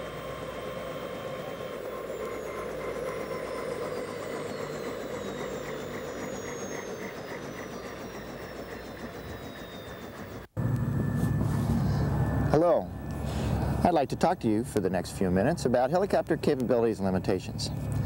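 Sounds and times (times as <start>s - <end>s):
helicopter running: 0.0s - 18.0s.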